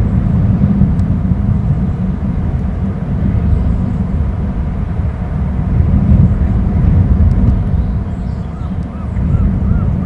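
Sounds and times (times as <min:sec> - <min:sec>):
surf on rocky shore: 0:00.0 - 0:10.0
wind buffeting microphone: 0:00.0 - 0:10.0.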